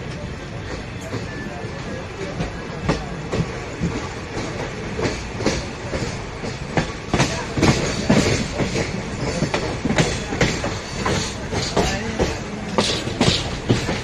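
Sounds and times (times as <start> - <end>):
train rumble: 0.0 - 14.0
train wheels clattering over rail joints: 0.0 - 14.0.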